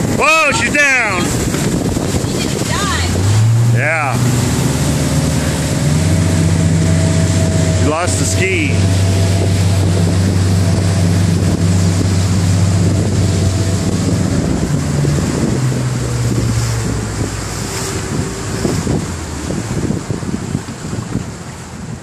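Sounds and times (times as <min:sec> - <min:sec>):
motorboat engine running: 0:00.0 - 0:22.0
water rushing past hull: 0:00.0 - 0:22.0
wind buffeting microphone: 0:00.0 - 0:22.0.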